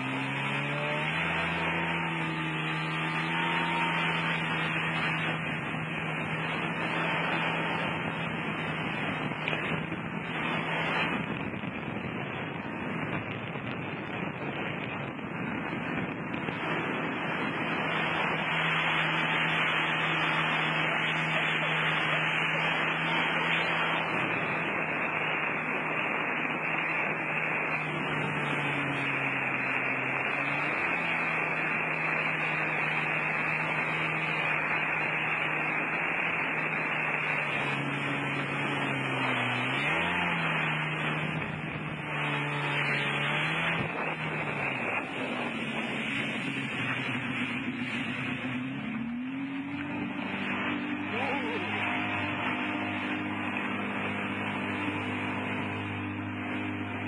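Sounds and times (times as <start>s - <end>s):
water spray rushing: 0.0s - 12.2s, 15.6s - 57.0s
watercraft engine running: 0.0s - 57.0s
wind: 0.0s - 57.0s.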